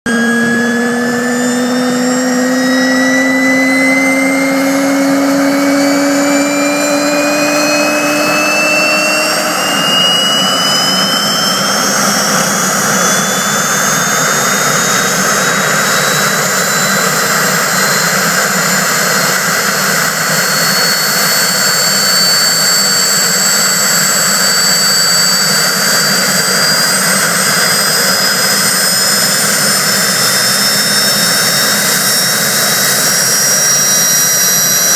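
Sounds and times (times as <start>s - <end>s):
helicopter turbine whine: 0.1s - 34.9s.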